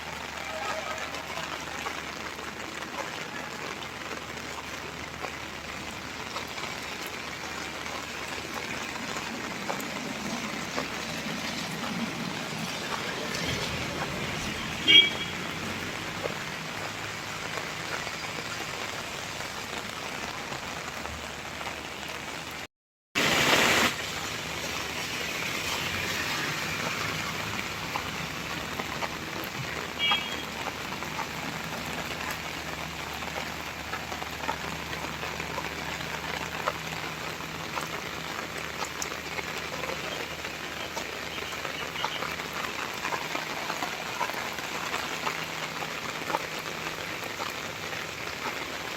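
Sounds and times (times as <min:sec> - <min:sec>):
rain pattering: 0:00.0 - 0:48.9.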